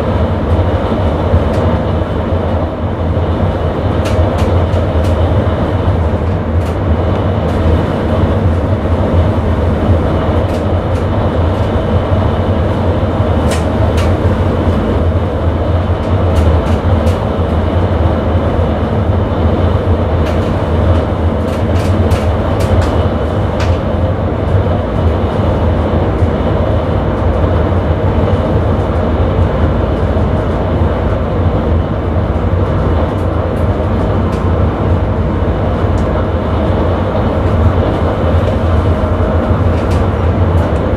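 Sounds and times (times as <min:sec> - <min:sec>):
train rumbling on track: 0:00.0 - 0:40.9
wheels clicking on rails: 0:00.0 - 0:40.9.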